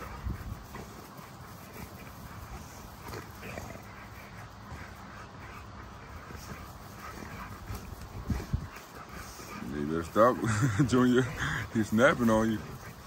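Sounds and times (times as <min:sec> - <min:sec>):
dogs scuffling: 0:00.0 - 0:13.0
dogs vocalizing while play-fighting: 0:00.0 - 0:13.0.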